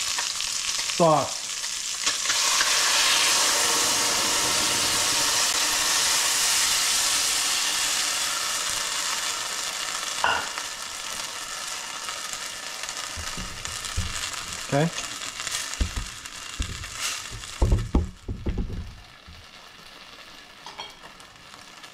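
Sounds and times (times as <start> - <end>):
food sizzling in a wok: 0.0 - 21.9.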